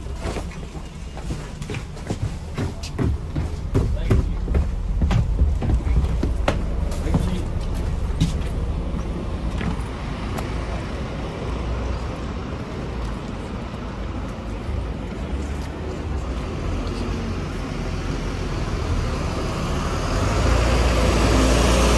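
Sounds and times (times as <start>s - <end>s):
bus engine and road rumble: 0.0s - 21.9s.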